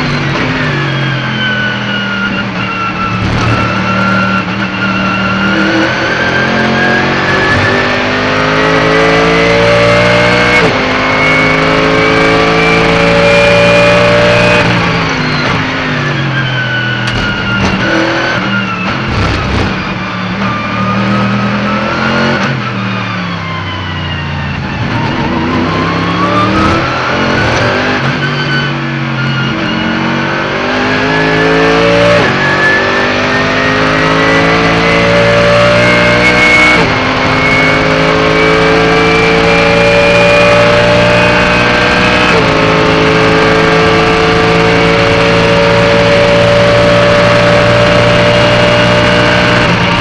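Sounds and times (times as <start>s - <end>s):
racing car engine: 0.0s - 50.0s.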